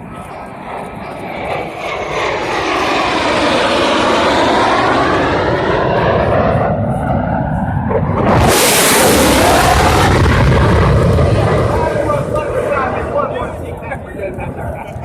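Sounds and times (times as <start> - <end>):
jet flying past low: 0.0 - 15.0.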